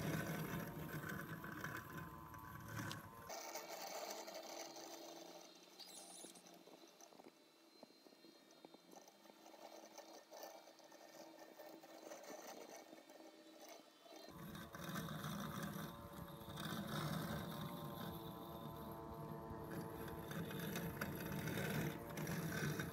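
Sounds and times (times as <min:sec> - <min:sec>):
robotic mower motor whir: 0:00.0 - 0:22.9.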